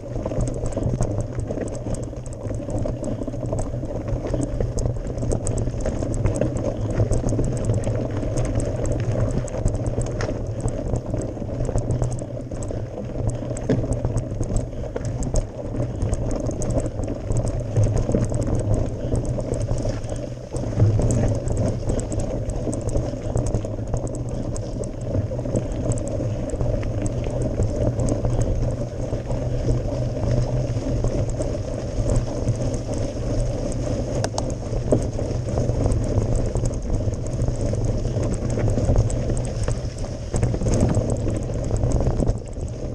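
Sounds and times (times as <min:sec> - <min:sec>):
bike tyres crackling over gravel: 0:00.0 - 0:42.9
steady low rumble: 0:00.0 - 0:42.9.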